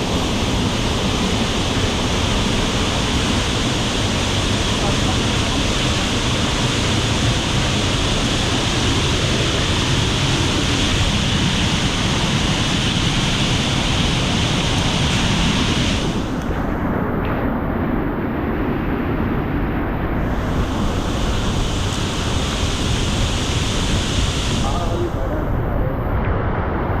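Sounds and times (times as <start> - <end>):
waterfall roaring: 0.0 - 26.1.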